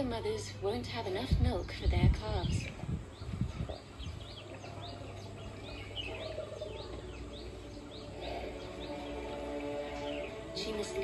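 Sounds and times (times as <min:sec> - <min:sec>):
bird rising chirp: 0:01.6 - 0:11.0.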